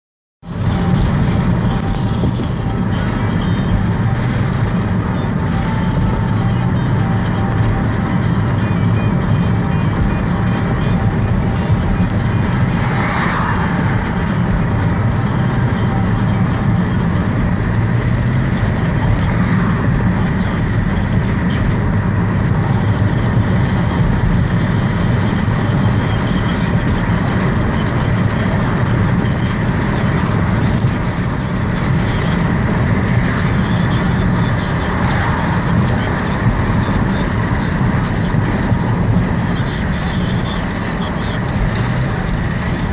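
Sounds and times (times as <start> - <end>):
car engine and road noise: 0.4 - 42.9.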